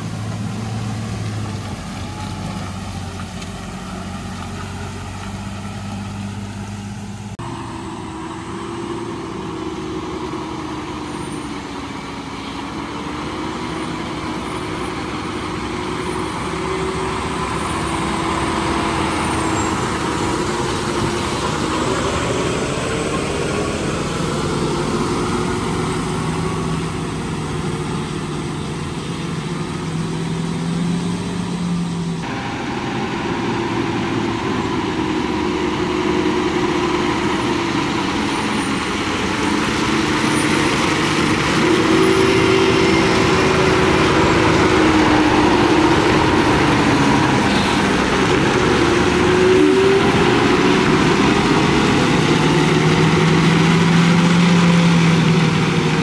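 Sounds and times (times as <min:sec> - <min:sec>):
lorry diesel engines labouring: 0:00.0 - 0:56.0.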